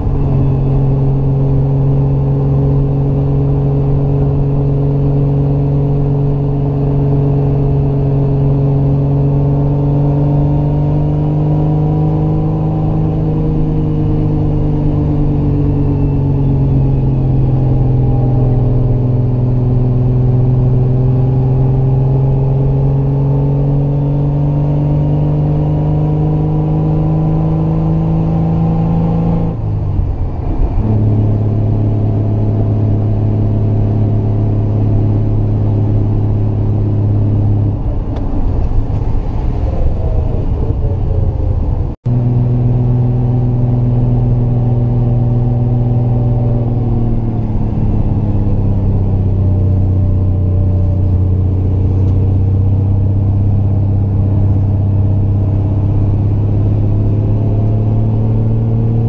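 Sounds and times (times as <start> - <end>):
car engine pulling uphill: 0.0 - 59.0.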